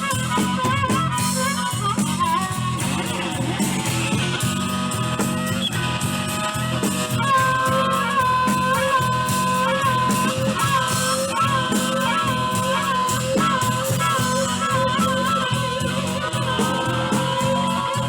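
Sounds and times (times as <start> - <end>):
bending lead notes: 0.0 - 18.0
blues band playing: 0.0 - 18.0
repeating bass groove: 0.0 - 18.0.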